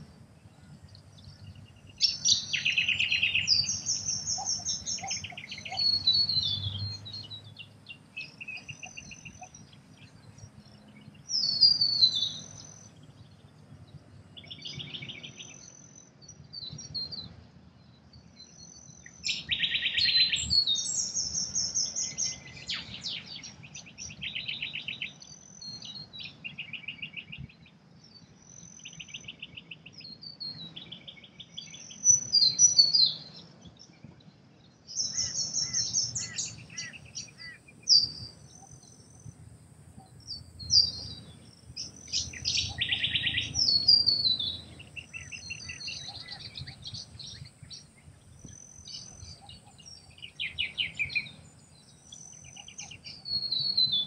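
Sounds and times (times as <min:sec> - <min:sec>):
small birds singing: 0:00.0 - 0:54.0.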